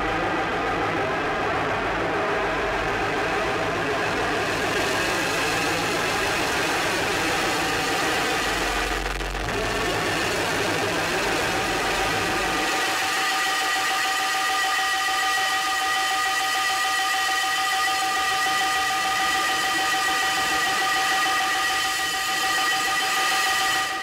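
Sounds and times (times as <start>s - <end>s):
high feedback tones drone: 2.6s - 24.0s.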